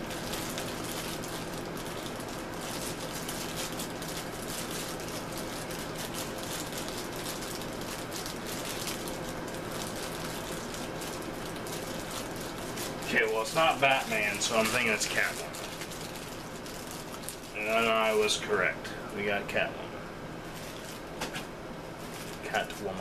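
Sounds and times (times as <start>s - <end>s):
foil bag crinkling: 0.0s - 18.8s, 20.4s - 23.0s.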